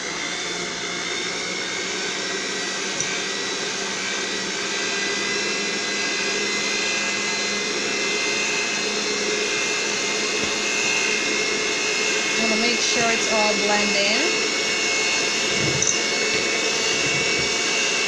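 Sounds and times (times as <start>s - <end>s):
electric kitchen mixer whining: 0.0s - 18.0s.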